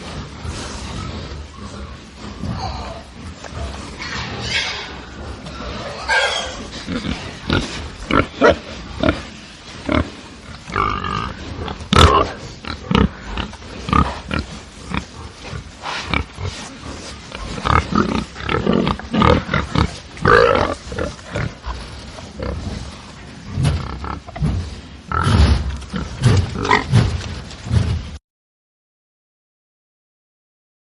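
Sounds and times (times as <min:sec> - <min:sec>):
pigs grunting and squealing: 0:00.3 - 0:27.3.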